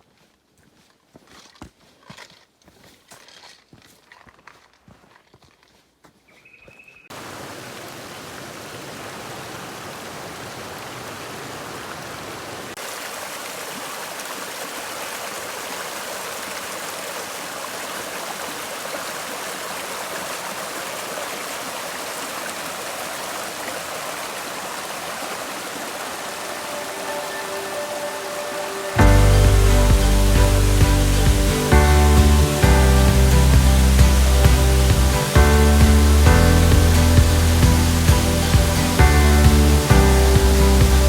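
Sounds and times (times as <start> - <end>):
cascading water rushing: 7.1 - 41.0.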